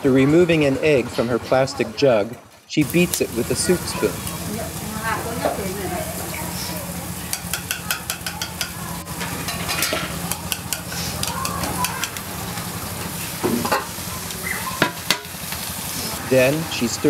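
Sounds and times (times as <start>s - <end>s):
greens sizzling in a wok: 2.8s - 17.0s.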